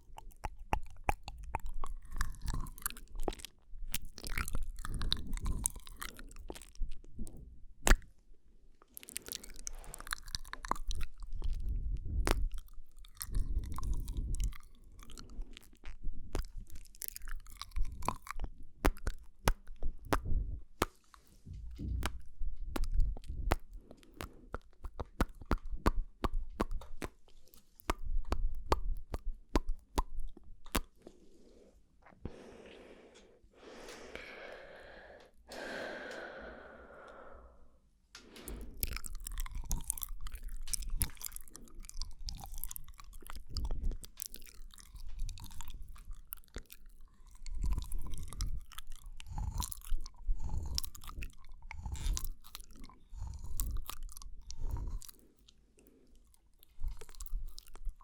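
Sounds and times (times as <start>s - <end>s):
wet mouth clicks and smacks: 0.0s - 31.2s, 38.4s - 58.0s
breathy mouth sounds: 0.0s - 58.0s.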